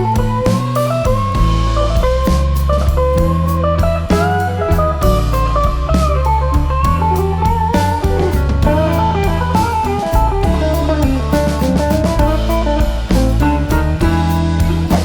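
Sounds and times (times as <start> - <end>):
bass and drums beat: 0.0 - 15.0
guitar melody: 0.0 - 15.0.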